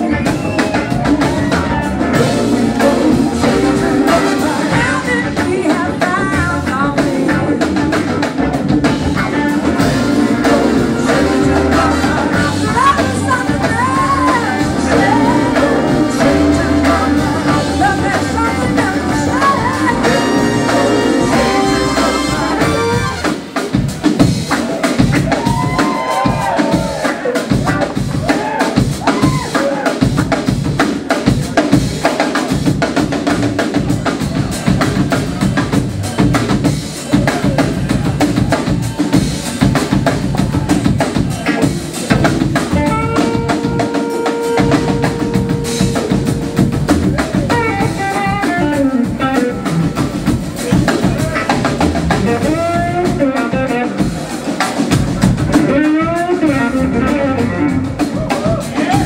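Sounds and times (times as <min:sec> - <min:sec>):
drum kit: 0:00.0 - 0:59.0
rock blues band playing: 0:00.0 - 0:59.0.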